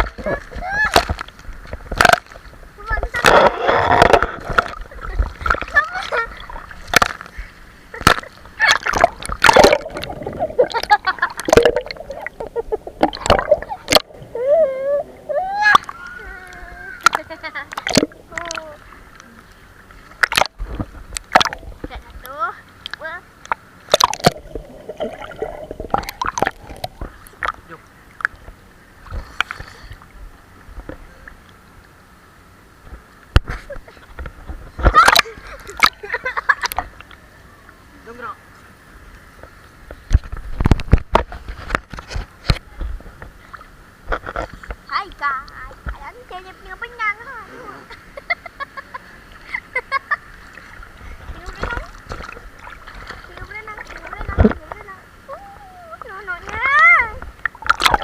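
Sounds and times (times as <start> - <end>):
pool water splashing: 0.0 - 58.0.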